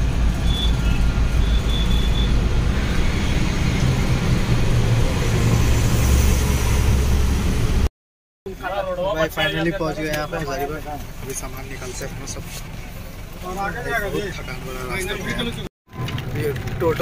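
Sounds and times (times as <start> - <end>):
bus engine rumble: 0.0 - 7.9, 8.5 - 17.0.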